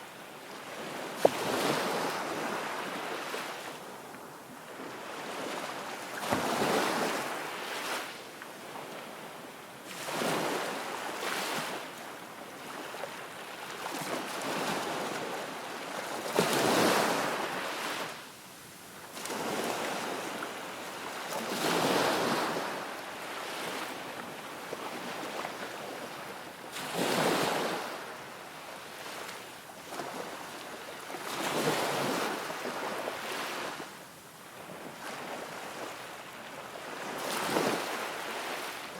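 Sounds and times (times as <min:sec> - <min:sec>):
small waves washing ashore: 0:00.0 - 0:18.3, 0:18.9 - 0:38.9.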